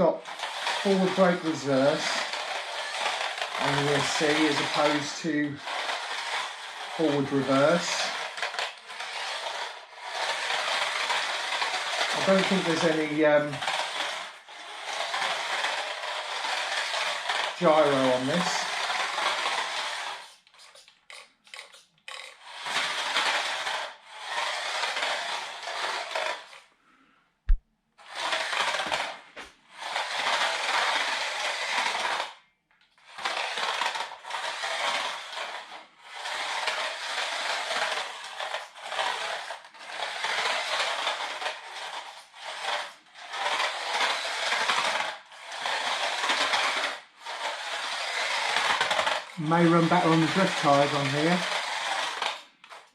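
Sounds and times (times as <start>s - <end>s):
toy car motor whirring: 0.0s - 27.2s, 28.0s - 52.9s.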